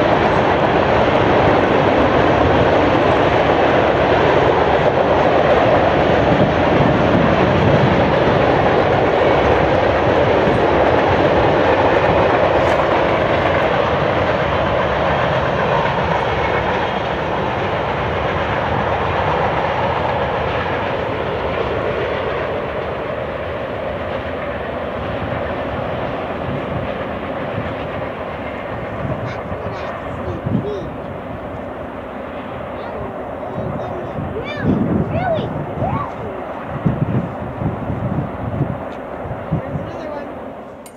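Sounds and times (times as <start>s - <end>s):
freight train wheels rumbling on rail: 0.0s - 40.9s.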